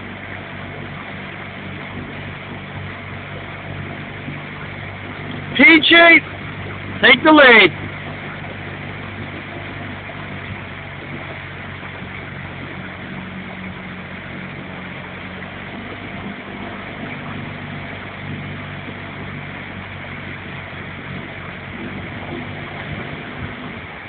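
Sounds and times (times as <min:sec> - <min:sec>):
motorboat engine humming: 0:00.0 - 0:24.0
wind and water hiss: 0:00.0 - 0:24.0.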